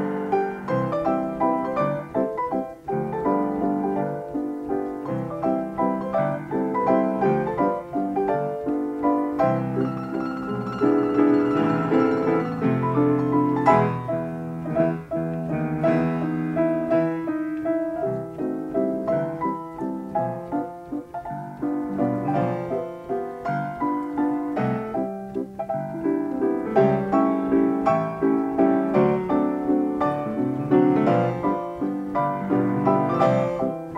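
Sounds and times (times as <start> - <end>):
player piano playing: 0.0 - 33.9.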